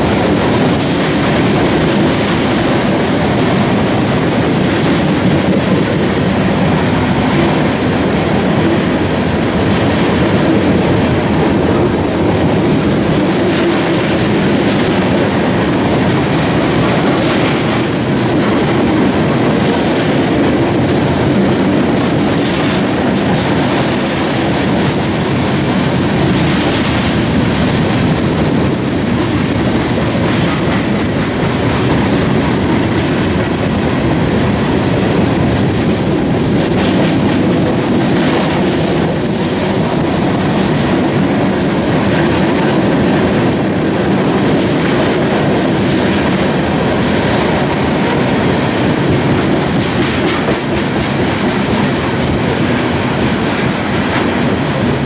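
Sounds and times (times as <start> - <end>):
freight train rumble: 0.0 - 55.0
train wheels clacking over rail joints: 0.0 - 55.0.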